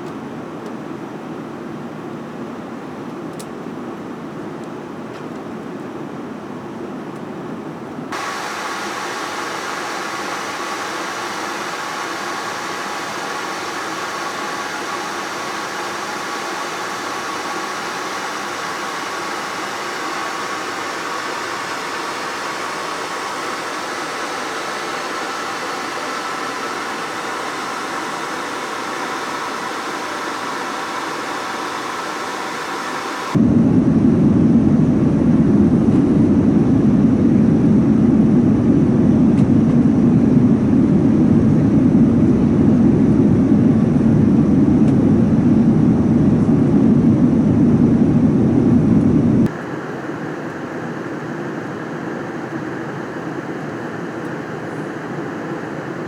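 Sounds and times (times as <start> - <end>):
faint steady whine: 0.0 - 56.0
jet engine cabin noise: 0.0 - 56.0.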